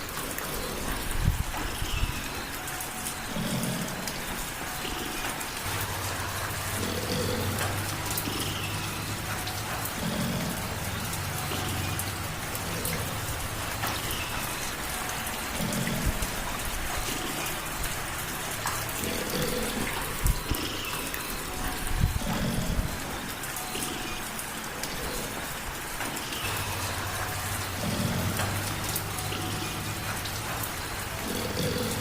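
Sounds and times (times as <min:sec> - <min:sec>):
light rain pattering: 0:00.0 - 0:32.0.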